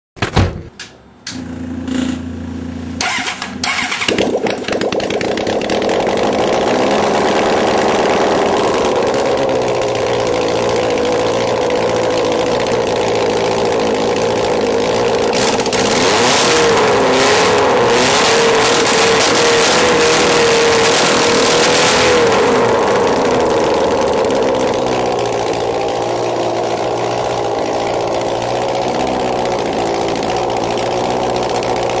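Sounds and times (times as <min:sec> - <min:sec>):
engine starting and revving: 0:01.3 - 0:32.0.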